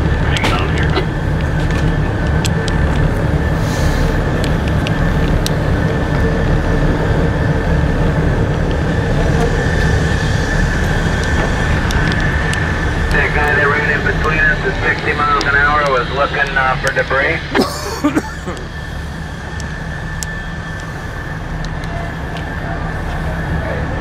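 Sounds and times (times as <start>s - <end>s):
diesel engines droning: 0.0s - 24.0s
high whine: 0.0s - 24.0s.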